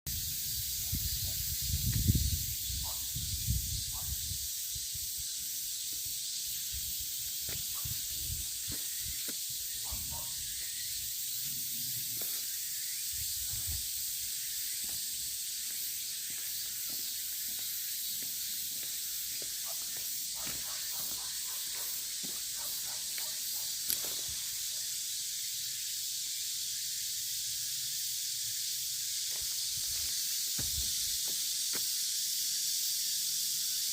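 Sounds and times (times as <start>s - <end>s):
high-pitched outdoor hiss: 0.1s - 33.9s.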